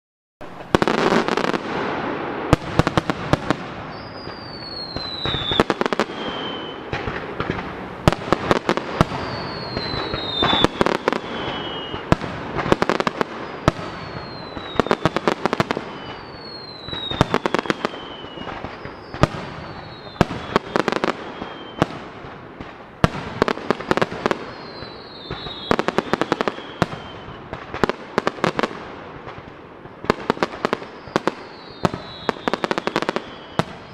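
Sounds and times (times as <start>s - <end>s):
high falling firework whistle: 0.4s - 7.6s, 8.5s - 22.0s, 23.2s - 27.6s, 30.6s - 33.9s.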